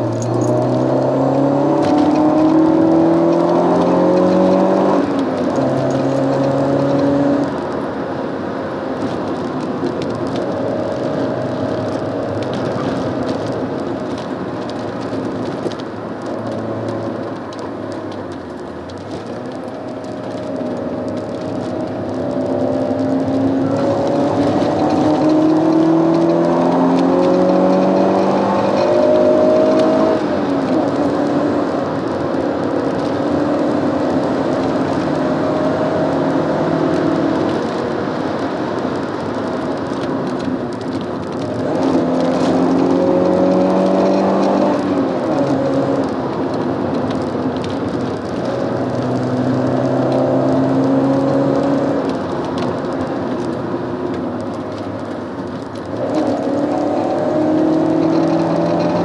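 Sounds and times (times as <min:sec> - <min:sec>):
car engine while driving: 0:00.0 - 0:59.0
tyre and road noise: 0:00.0 - 0:59.0.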